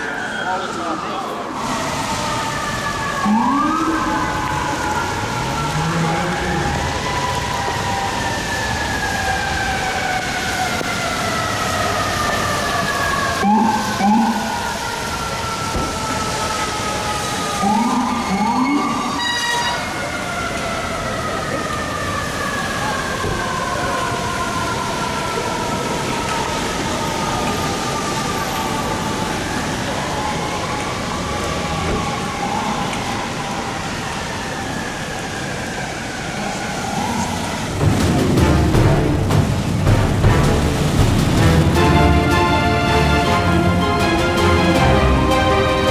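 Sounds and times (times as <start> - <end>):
siren wail falling in pitch: 0.0 - 39.7
traffic hiss on wet street: 0.0 - 45.9.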